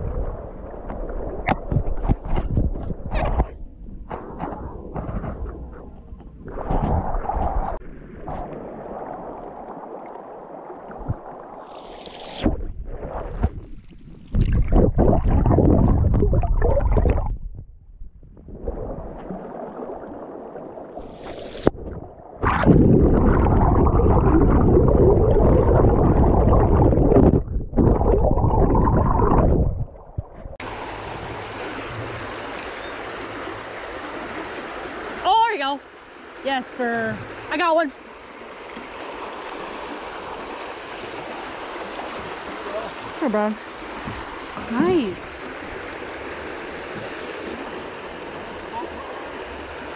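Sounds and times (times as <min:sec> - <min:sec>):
stream water rushing and gurgling: 0:00.0 - 0:17.3, 0:18.4 - 0:49.9.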